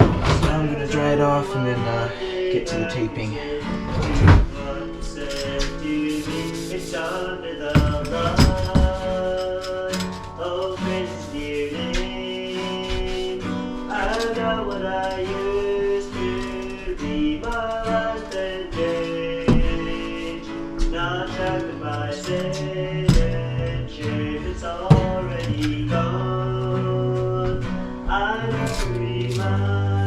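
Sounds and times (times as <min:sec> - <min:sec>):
acoustic guitar: 0:00.0 - 0:30.0
person singing: 0:00.0 - 0:30.0.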